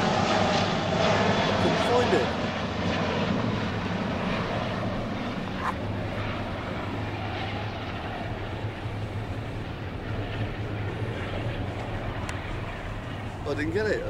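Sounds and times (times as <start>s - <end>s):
airliner engine rumble: 0.0s - 14.0s.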